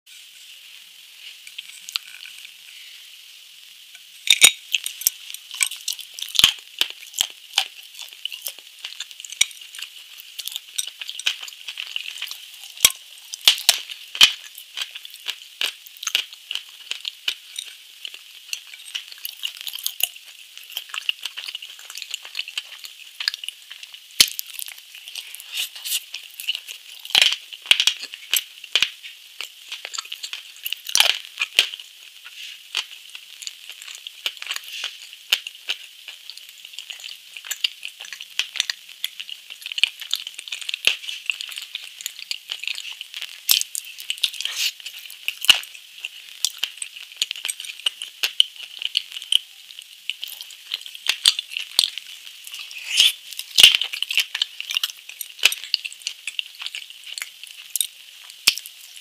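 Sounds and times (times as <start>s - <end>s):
crunching and chewing: 1.2s - 2.6s, 4.2s - 59.0s.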